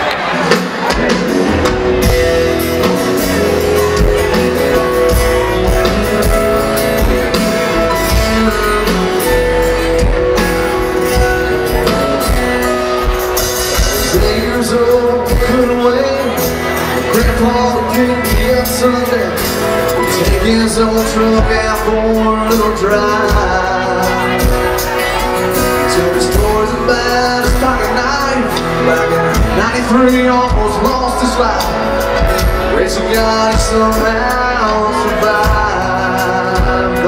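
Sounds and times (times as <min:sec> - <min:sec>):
country-rock band playing: 0:00.0 - 0:37.0.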